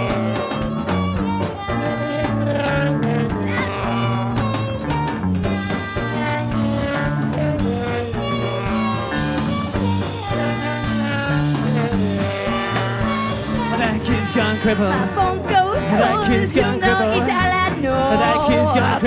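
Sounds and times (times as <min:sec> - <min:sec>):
bass line: 0:00.0 - 0:19.0
bending lead melody: 0:00.0 - 0:19.0.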